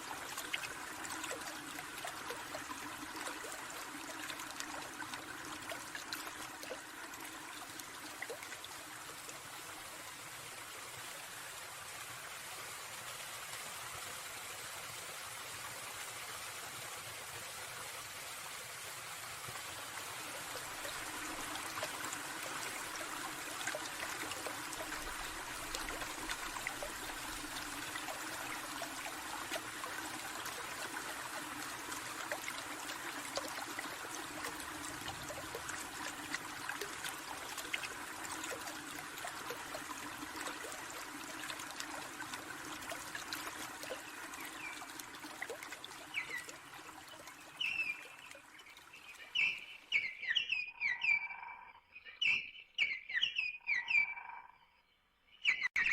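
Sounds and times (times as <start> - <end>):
stream trickling and babbling: 0.0 - 55.9.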